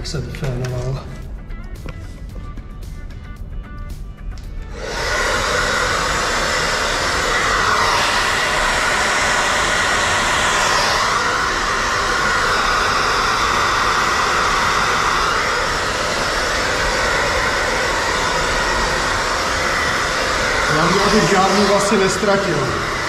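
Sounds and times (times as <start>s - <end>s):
hair dryer blowing: 4.4s - 23.0s.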